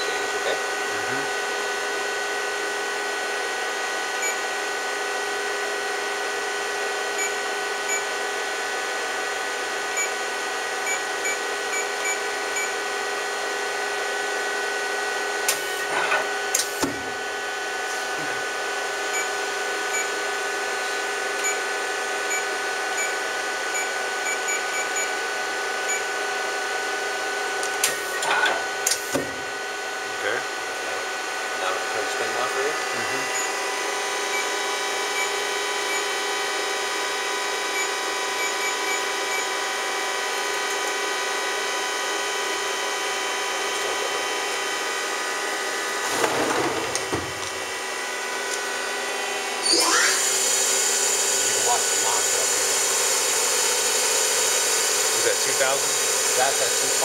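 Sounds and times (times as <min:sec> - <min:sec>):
machine tool whine: 0:00.0 - 0:57.0
tool turret clunks and whirr: 0:00.0 - 0:57.0.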